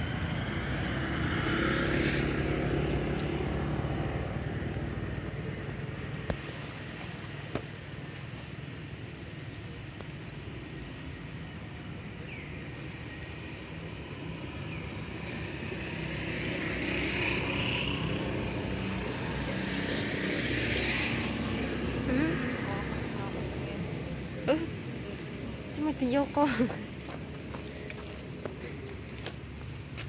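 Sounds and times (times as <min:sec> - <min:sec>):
low outdoor rumble: 0:02.3 - 0:30.0.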